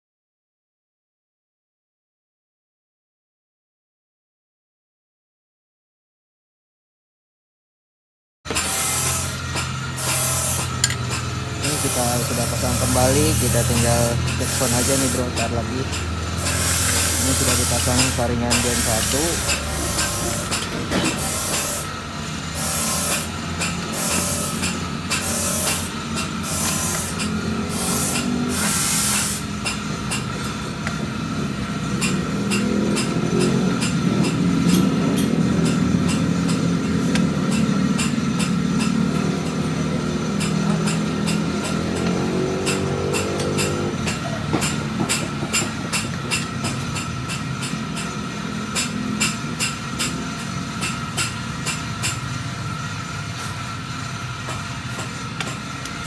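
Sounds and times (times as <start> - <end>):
motorcycle engine revving: 8.5 - 56.0.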